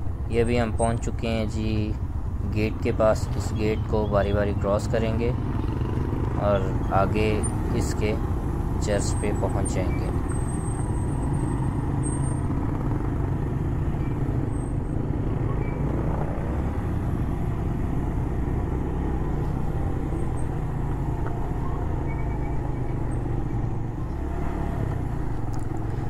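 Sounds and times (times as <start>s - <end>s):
motorcycle engine running: 4.8s - 26.0s.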